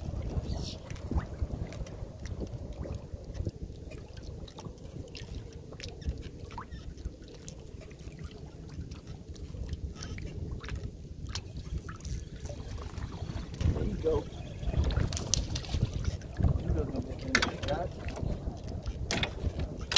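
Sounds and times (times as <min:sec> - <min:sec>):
wind rumbling on microphone: 0:00.0 - 0:19.9.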